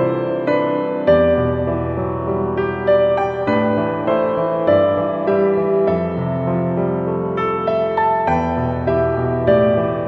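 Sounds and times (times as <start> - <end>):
soft piano melody: 0.0 - 10.0.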